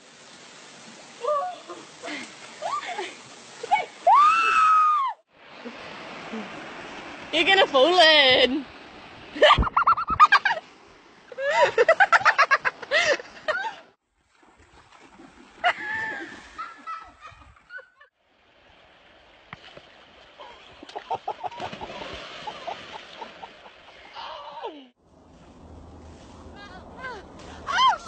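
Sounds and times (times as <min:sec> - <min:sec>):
water splashing and rushing: 0:00.0 - 0:13.5, 0:14.2 - 0:28.0.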